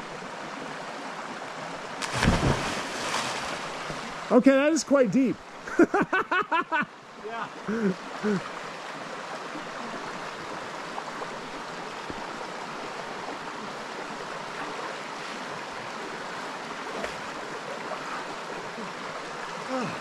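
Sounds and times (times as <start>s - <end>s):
stream rushing over rocks: 0.0s - 5.7s, 6.7s - 20.0s.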